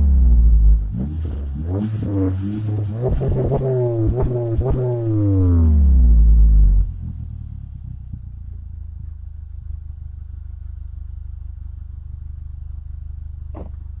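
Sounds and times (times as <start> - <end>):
vehicle exhaust idling: 2.3 - 14.0.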